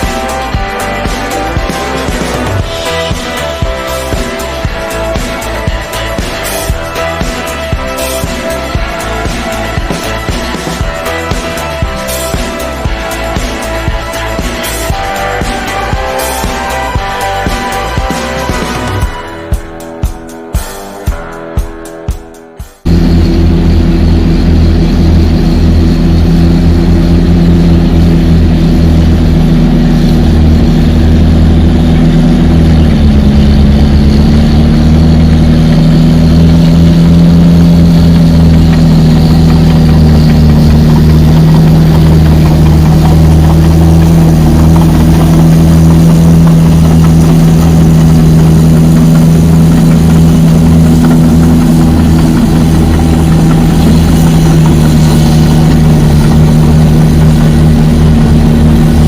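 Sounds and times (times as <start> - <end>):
bulldozer diesel engine running: 0.0 - 21.4, 22.8 - 59.0.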